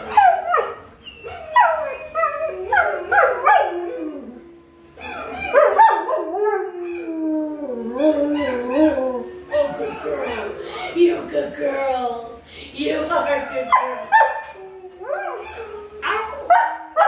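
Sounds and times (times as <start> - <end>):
dog howling: 0.0 - 10.8, 13.3 - 17.0.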